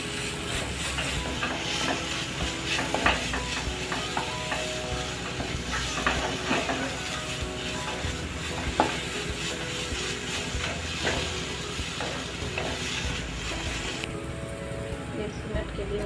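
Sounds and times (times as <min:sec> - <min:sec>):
spatula scraping frying pan: 0:00.0 - 0:14.1
masala sizzling in pan: 0:00.0 - 0:15.2.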